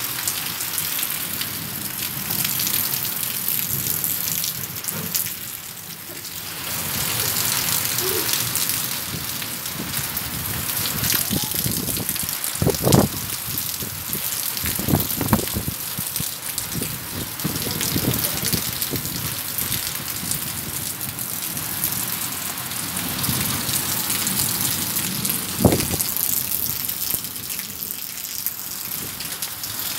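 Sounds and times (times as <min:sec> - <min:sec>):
heavy rain on paving: 0:00.0 - 0:29.9.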